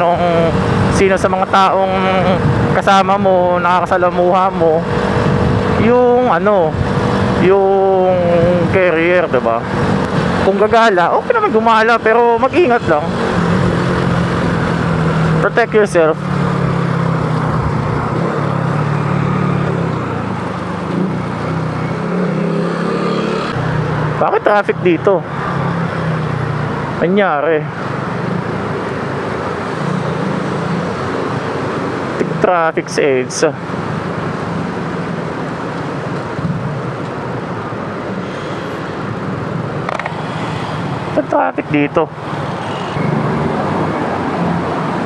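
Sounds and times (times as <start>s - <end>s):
wind and road noise: 0.0s - 45.0s.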